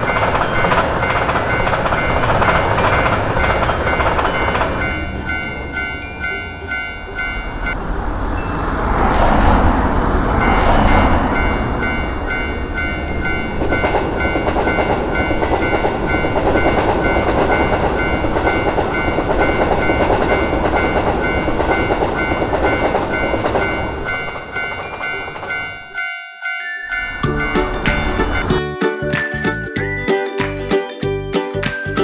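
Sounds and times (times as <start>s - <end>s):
train rumble and wheel clatter: 0.0s - 26.0s, 26.9s - 32.0s
level crossing bell ringing: 0.0s - 32.0s.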